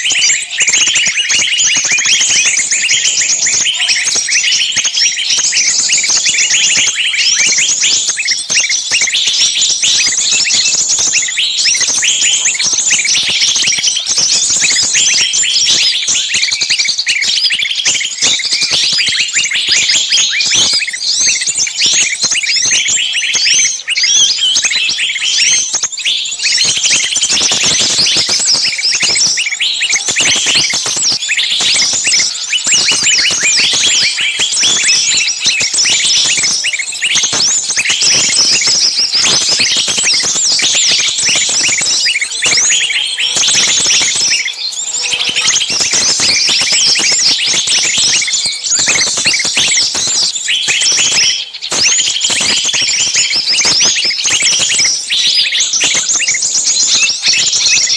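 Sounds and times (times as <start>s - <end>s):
small birds chirping: 0.0s - 57.9s.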